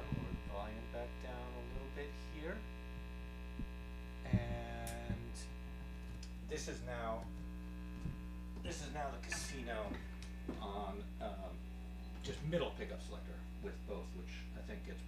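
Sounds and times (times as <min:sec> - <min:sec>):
guitar amp mains hum: 0:00.0 - 0:15.0.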